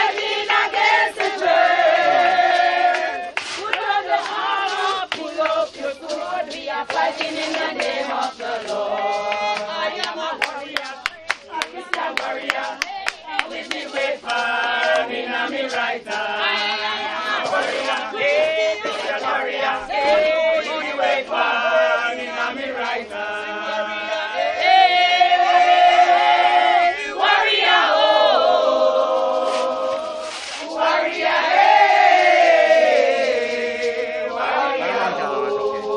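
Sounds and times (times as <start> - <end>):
group of people singing: 0.0 - 35.9.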